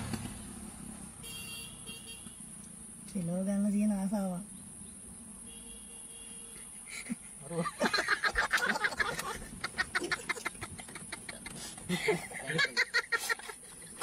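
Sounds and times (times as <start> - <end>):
high insect hiss: 0.3 - 11.9.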